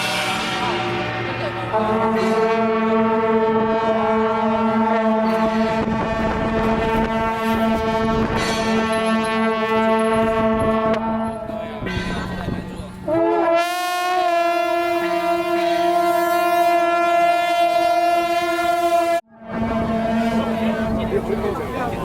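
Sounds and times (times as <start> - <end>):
higher horn with upward slide: 0.0 - 11.7, 13.1 - 22.0
horn blasts: 0.0 - 22.0.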